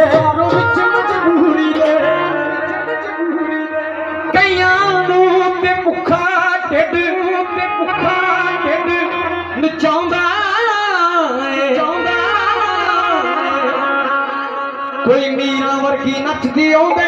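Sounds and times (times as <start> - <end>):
amplified live folk music: 0.0 - 17.0
person singing: 0.0 - 17.0.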